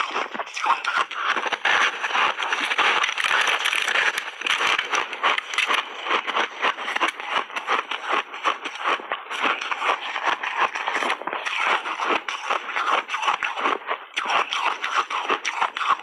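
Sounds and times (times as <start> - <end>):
chewing crunches: 0.0 - 16.0
crunching ice roll: 0.0 - 16.0.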